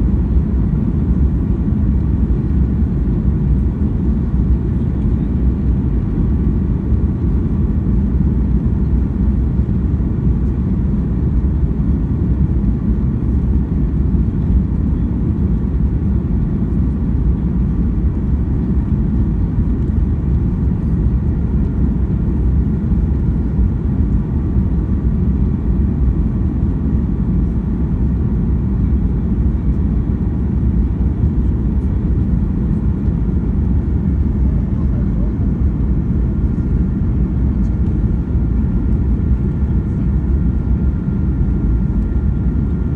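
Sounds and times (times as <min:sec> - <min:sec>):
airplane cabin engine rush: 0:00.0 - 0:42.9.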